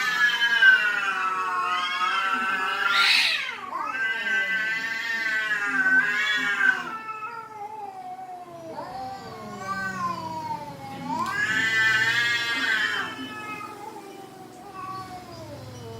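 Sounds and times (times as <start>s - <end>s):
cats yowling: 0.0s - 15.9s.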